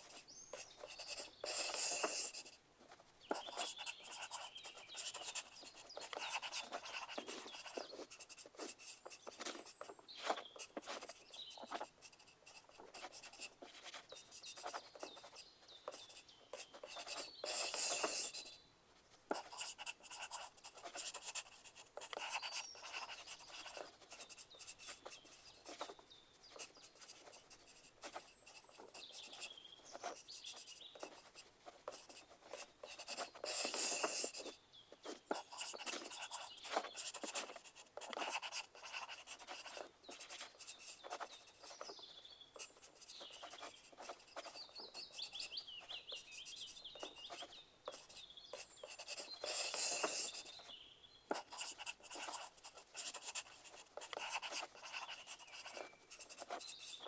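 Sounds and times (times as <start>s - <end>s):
pencil scratching on paper: 0.0s - 2.6s, 3.3s - 18.6s, 19.3s - 50.7s, 51.3s - 57.0s.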